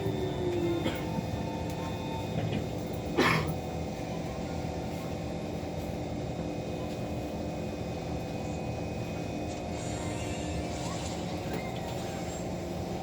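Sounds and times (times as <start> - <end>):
train carriage mechanical drone: 0.0 - 13.0.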